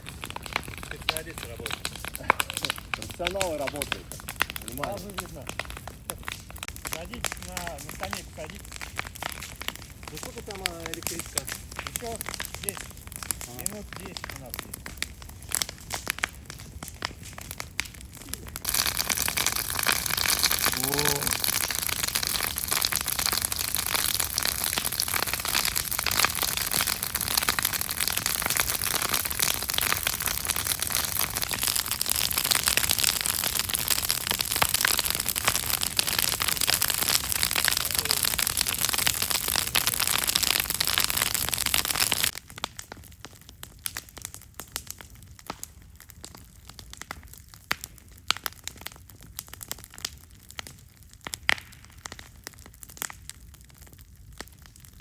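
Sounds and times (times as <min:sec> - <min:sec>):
campfire popping and crackling: 0:00.0 - 0:55.0.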